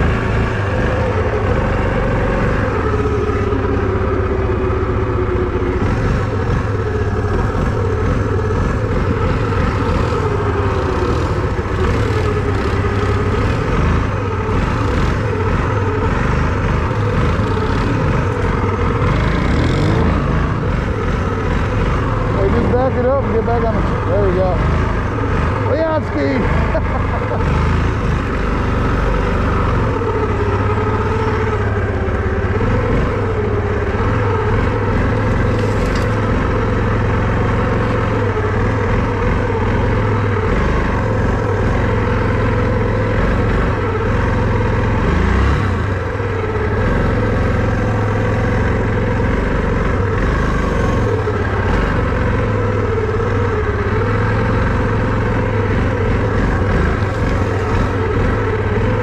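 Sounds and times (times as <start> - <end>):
all-terrain vehicle engine running: 0.0 - 59.0.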